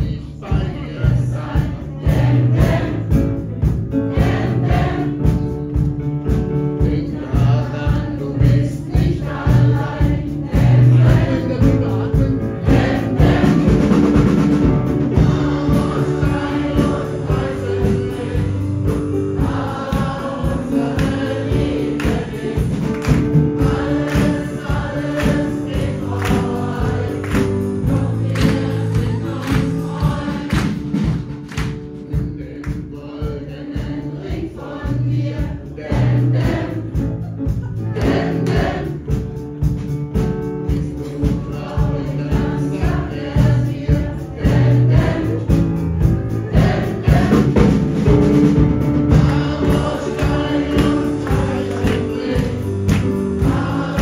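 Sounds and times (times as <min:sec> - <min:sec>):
crowd singing: 0:00.0 - 0:39.7, 0:40.4 - 0:54.0
music with a steady beat: 0:00.0 - 0:54.0.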